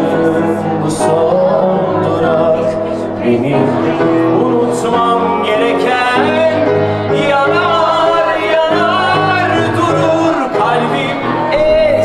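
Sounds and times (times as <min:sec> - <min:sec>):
instrumental accompaniment: 0:00.0 - 0:12.0
man singing into a microphone: 0:00.0 - 0:12.0.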